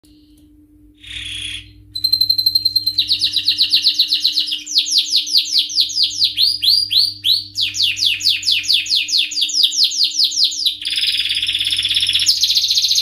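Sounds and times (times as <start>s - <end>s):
canary singing: 1.0s - 13.0s.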